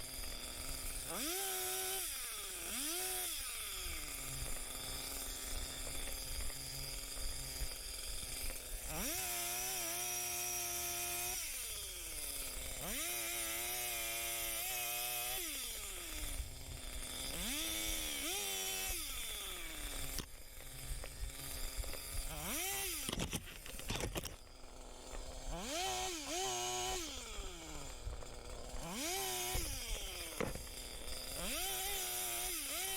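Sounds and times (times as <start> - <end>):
chainsaw revving cutting wood: 0.0 - 32.9.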